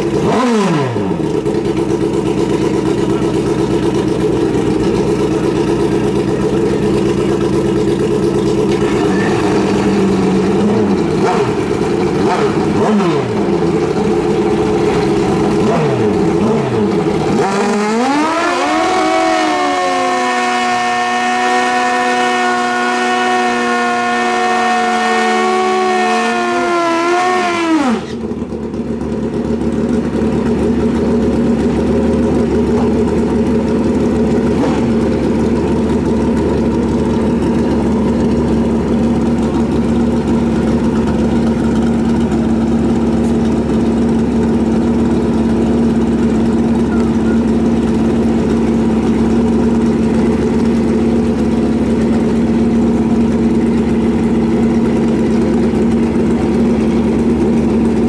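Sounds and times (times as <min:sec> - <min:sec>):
motorcycle engine revving: 0:00.0 - 0:58.0
motorcycles idling: 0:00.0 - 0:58.0.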